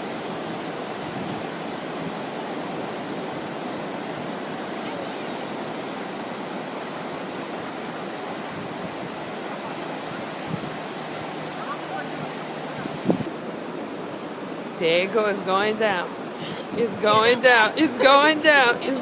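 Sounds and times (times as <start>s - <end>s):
ocean surf rushing: 0.0s - 19.0s.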